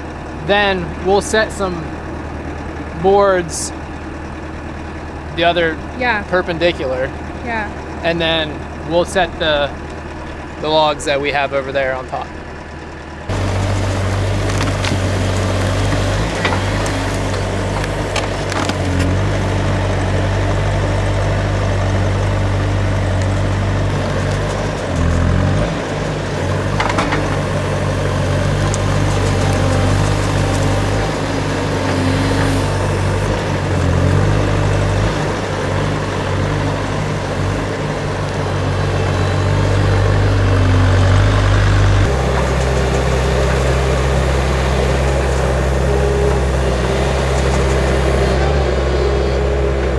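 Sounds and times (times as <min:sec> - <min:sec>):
skid steer engine revving: 0:00.0 - 0:49.9.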